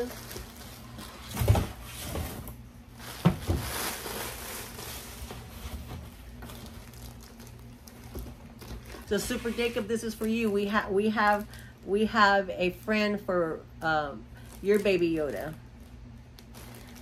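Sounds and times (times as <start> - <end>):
plastic packaging crinkling: 0.0 - 12.0, 14.3 - 17.0.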